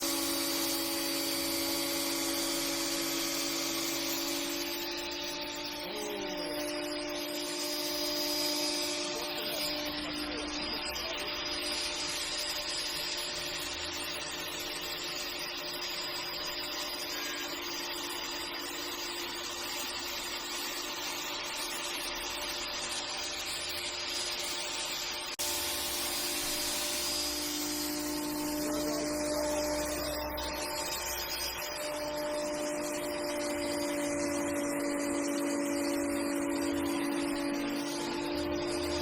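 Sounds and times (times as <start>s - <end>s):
planer motor whine: 0.0s - 39.0s.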